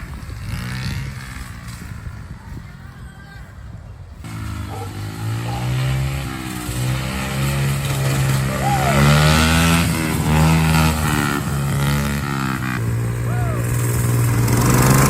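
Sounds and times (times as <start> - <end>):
mini-bike engines revving: 0.0 - 15.0
wind rumble on microphone: 0.0 - 15.0.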